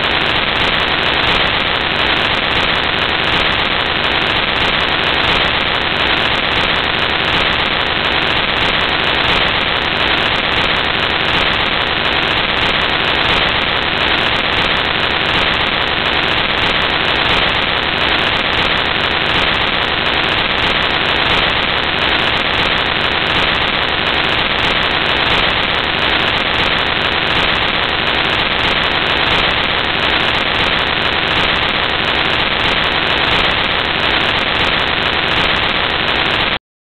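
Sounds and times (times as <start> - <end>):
loud static hiss: 0.0 - 36.6.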